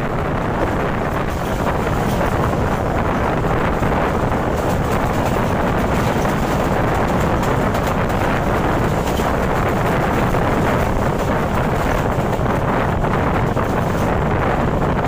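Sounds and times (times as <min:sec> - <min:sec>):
train rolling at high speed: 0:00.0 - 0:15.0
wind buffeting microphone: 0:00.0 - 0:15.0.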